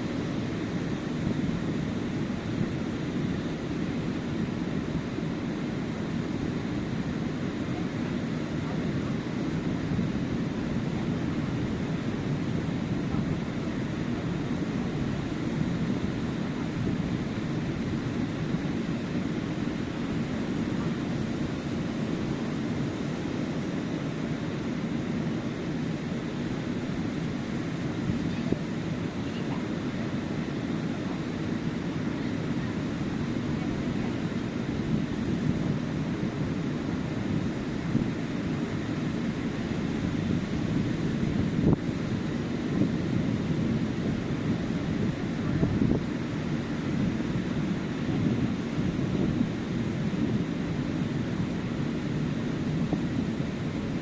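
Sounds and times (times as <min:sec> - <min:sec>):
waves washing on beach: 0:00.0 - 0:54.0.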